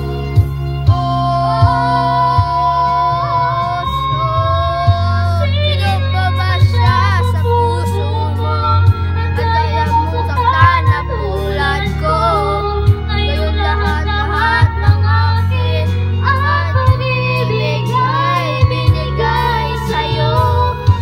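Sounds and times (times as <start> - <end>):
karaoke backing track: 0.0 - 21.0
boy singing: 0.9 - 21.0.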